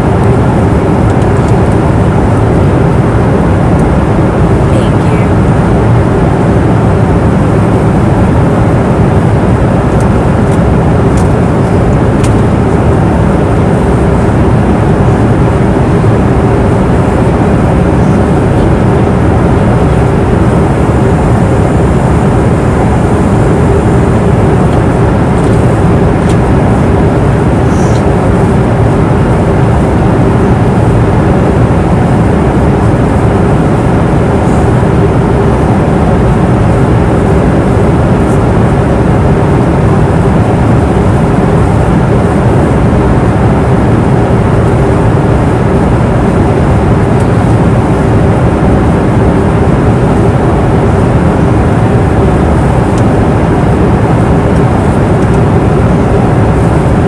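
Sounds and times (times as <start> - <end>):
airplane engine and airflow rush: 0.0 - 57.0
faint steady hum: 0.0 - 57.0.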